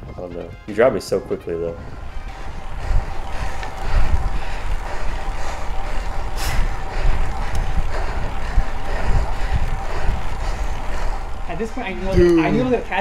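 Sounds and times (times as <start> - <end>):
wind buffeting microphone: 0.0 - 13.0
road noise: 1.5 - 13.0.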